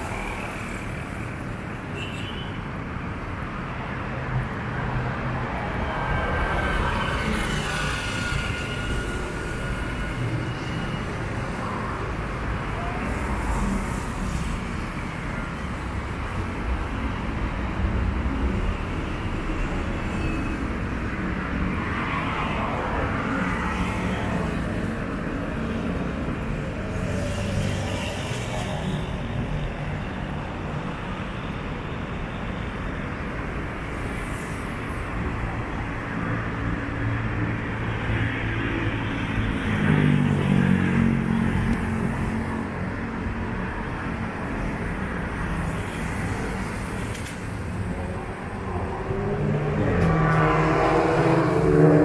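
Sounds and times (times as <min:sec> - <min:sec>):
passing cars: 0:02.6 - 0:52.0.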